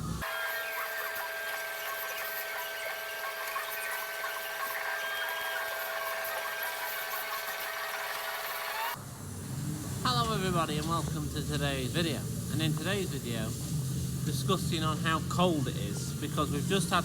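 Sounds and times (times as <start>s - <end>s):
two-tone mechanical whine: 0.0s - 17.0s.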